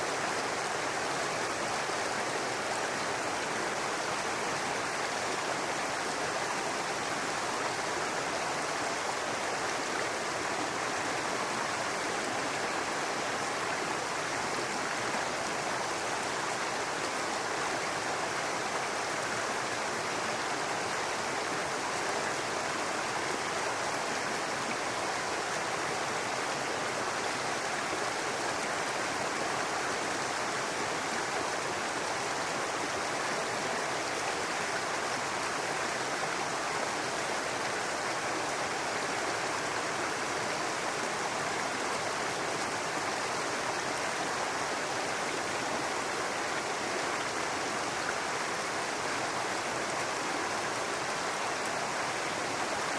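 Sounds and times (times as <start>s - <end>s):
brook water babbling over rocks: 0.0s - 52.9s.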